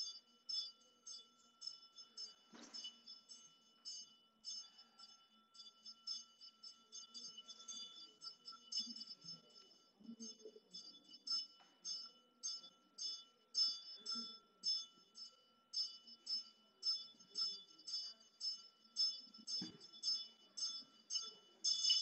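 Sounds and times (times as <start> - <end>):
metal hand bell ringing: 0.0 - 22.0.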